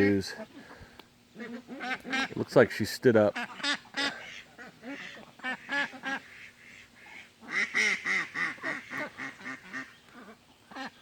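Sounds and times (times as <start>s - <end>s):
ducks quacking: 0.0s - 2.5s, 3.2s - 11.0s.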